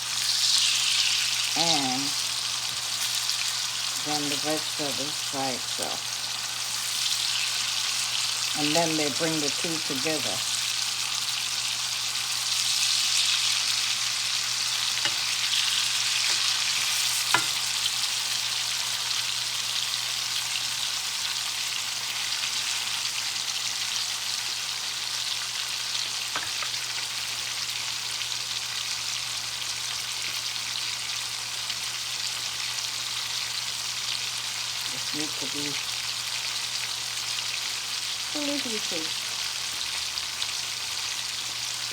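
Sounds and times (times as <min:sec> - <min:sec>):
chicken sizzling in a pan: 0:00.0 - 0:41.9.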